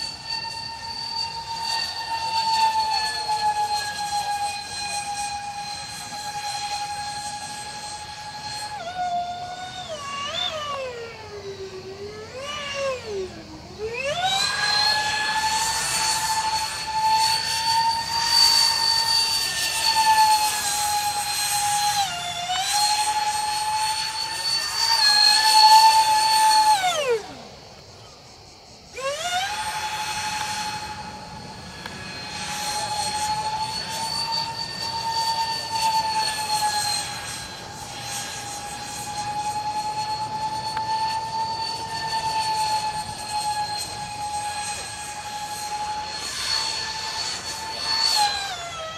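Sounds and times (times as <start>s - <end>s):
electric ducted fans whining: 0.0s - 48.9s.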